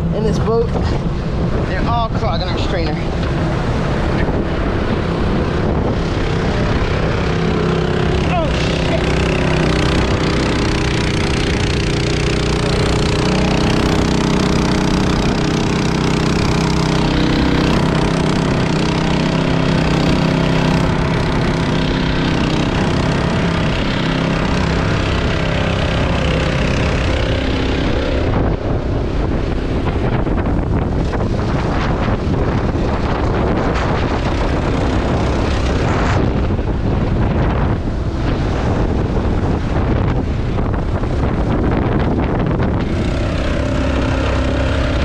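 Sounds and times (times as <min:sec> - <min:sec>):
outboard motor running: 0:00.0 - 0:45.0
water pump engine running: 0:00.0 - 0:45.0
water rushing past hull: 0:00.0 - 0:45.0
wind buffeting microphone: 0:00.0 - 0:45.0.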